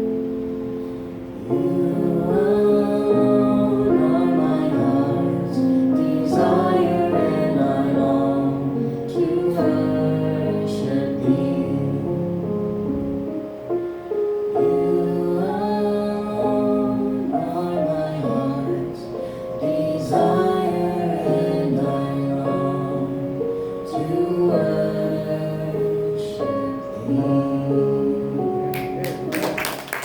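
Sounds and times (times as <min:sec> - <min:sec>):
gentle instrumental accompaniment: 0:00.0 - 0:30.0
person singing slow song: 0:00.7 - 0:12.7, 0:14.1 - 0:29.3.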